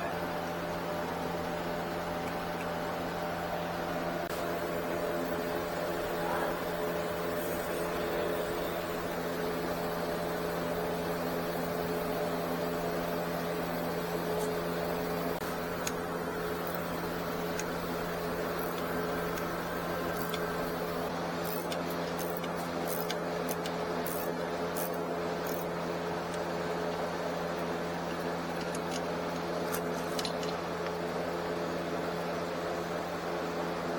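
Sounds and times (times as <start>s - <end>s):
steady mechanical hum: 0.0s - 33.9s.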